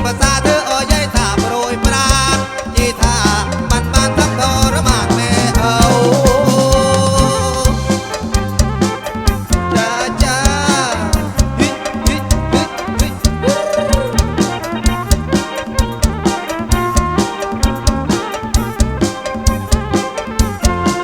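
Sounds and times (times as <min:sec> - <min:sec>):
live band music: 0:00.0 - 0:21.0
steady drum beat: 0:00.0 - 0:21.0.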